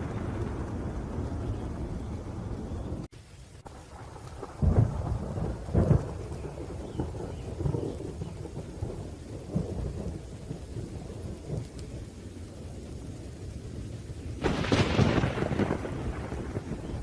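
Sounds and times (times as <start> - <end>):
loud thunder claps: 0.0 - 3.1, 3.7 - 11.9, 14.4 - 17.0
steady rain: 0.0 - 17.0
thunder rumble: 0.0 - 17.0.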